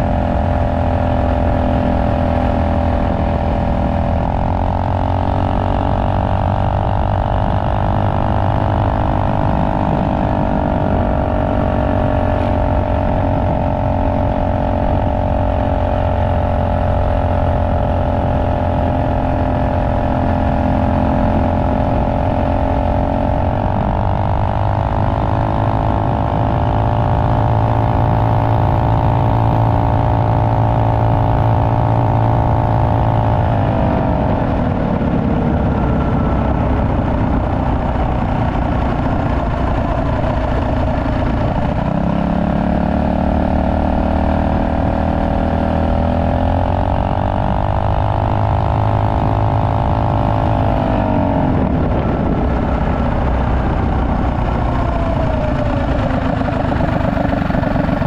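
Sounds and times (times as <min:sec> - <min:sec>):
minibike engine running: 0:00.0 - 0:58.0.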